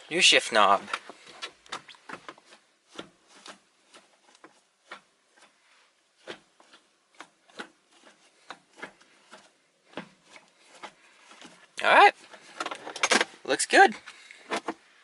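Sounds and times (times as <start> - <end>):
faint clicks and rubbing: 0.5 - 15.0.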